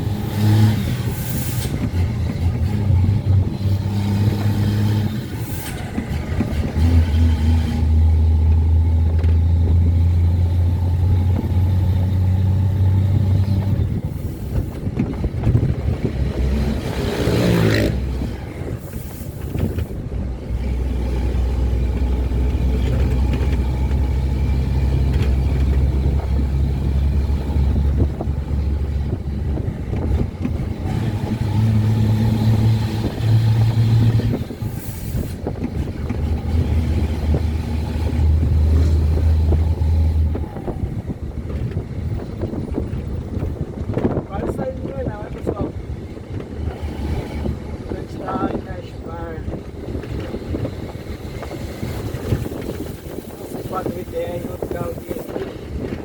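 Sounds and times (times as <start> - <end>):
truck diesel engine rumbling: 0.0 - 56.0.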